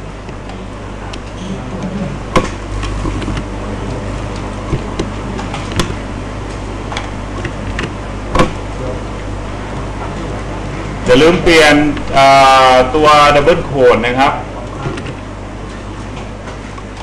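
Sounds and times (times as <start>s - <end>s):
low hum and hiss: 0.0s - 17.0s.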